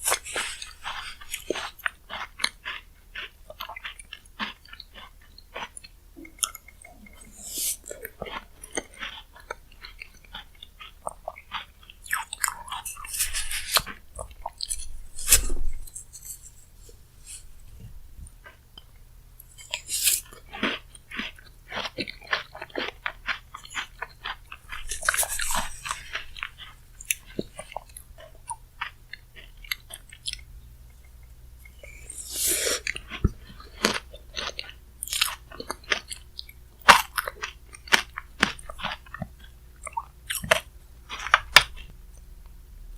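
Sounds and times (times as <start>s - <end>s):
person chewing and crunching: 0.0s - 42.3s.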